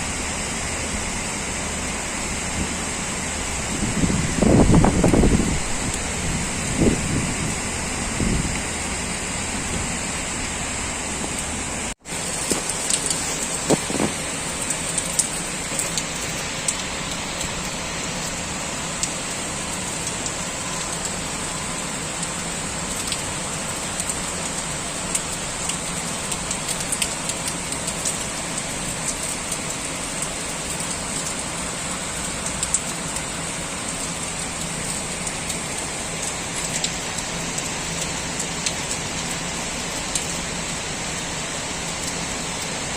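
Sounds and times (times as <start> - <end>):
heavy rain falling: 0.0 - 42.9
raindrops striking surfaces: 0.0 - 42.9.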